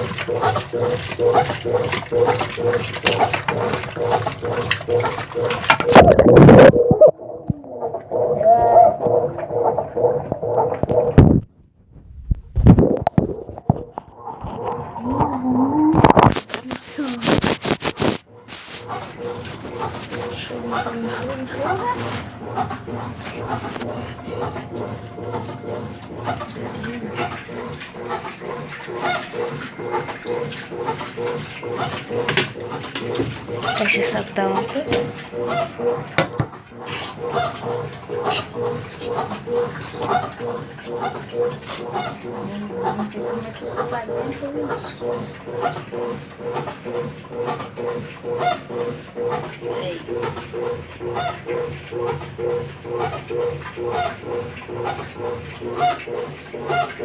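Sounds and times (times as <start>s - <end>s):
steady hum: 0.0s - 57.0s
washing machine agitating: 0.0s - 57.0s
water sloshing in drum: 0.0s - 57.0s.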